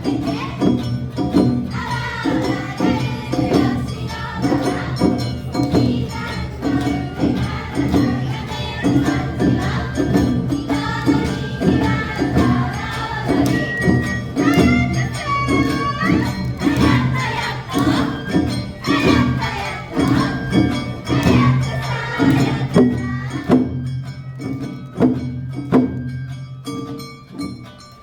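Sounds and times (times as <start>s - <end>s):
festival band music: 0.0s - 28.0s
ringing metallic percussion: 0.0s - 28.0s.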